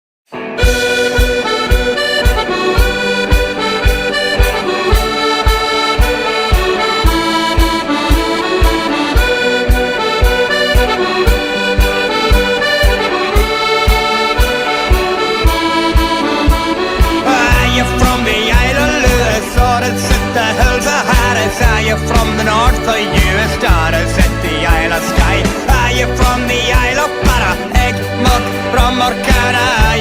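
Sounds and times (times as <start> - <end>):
lively folk tune: 0.4 - 30.0
steady drum beat: 0.6 - 30.0.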